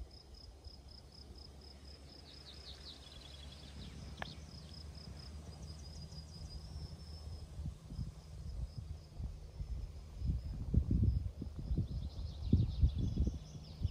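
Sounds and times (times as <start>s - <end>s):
insects chirping: 0.0s - 13.9s
low rumble: 2.4s - 13.9s.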